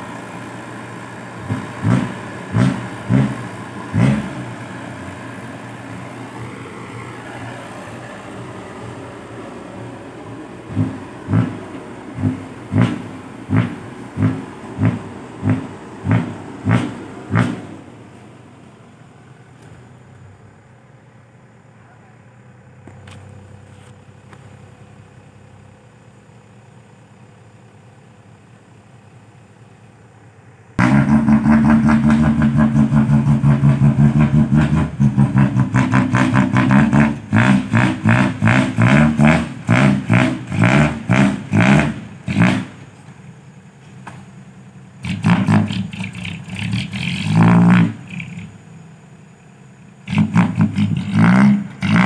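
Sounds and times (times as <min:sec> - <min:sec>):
diesel truck engine revving: 0:00.0 - 0:52.0.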